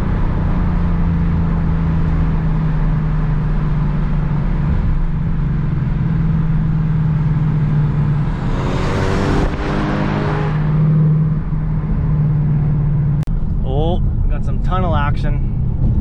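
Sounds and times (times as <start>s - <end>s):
car engine rumbling and revving: 0.0s - 16.0s.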